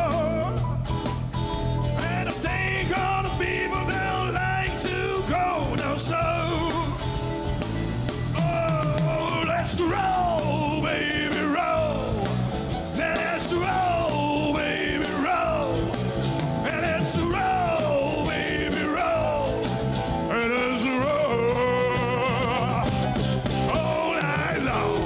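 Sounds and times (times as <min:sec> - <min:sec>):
man singing: 0:00.0 - 0:00.7, 0:02.0 - 0:07.1, 0:08.3 - 0:12.4, 0:13.0 - 0:16.0, 0:16.6 - 0:25.0
live rock band playing: 0:00.0 - 0:25.0.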